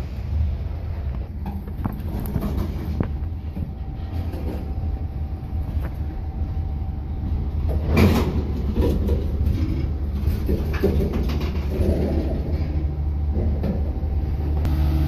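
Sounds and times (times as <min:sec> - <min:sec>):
train wheels rumbling on rails: 0:00.0 - 0:14.7.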